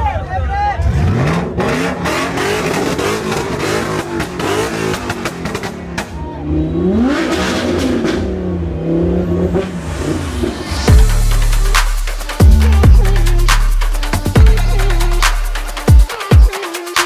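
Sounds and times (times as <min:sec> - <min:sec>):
sports car engines revving: 0:00.8 - 0:15.9.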